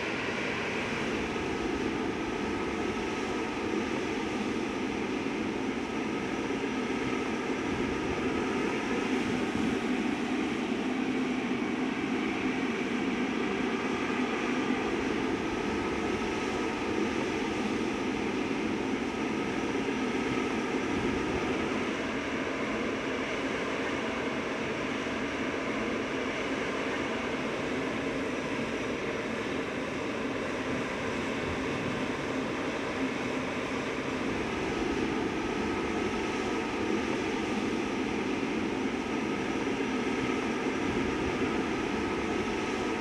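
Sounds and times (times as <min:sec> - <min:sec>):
jet engines idling: 0:00.0 - 0:43.0.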